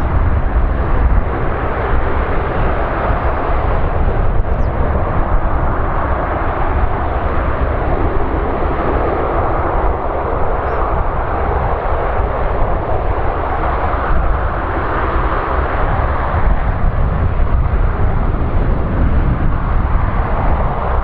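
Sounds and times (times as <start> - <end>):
turboprop engines running: 0.0 - 21.0.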